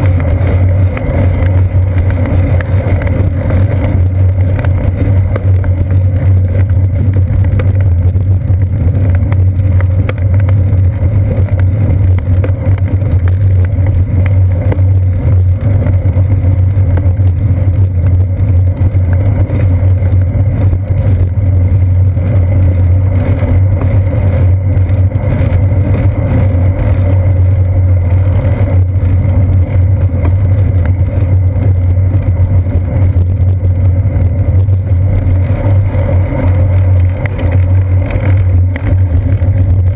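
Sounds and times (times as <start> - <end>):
bicycle rumble: 0.0 - 39.9
low hum: 0.0 - 39.9
wind: 0.0 - 39.9.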